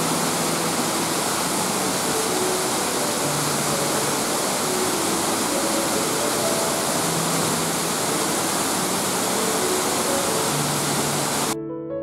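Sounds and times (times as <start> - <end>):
waterfall rushing over rock: 0.0 - 11.6.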